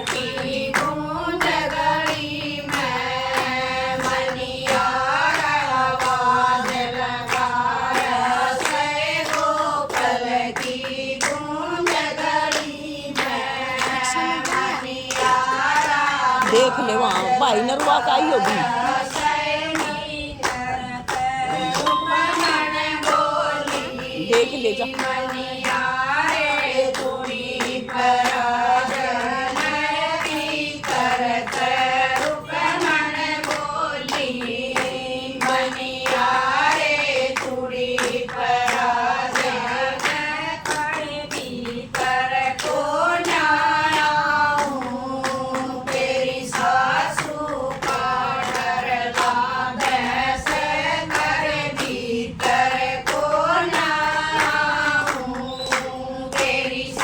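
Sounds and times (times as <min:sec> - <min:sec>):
hand-clapping: 0:00.0 - 0:57.0
women singing in unison: 0:00.0 - 0:57.0.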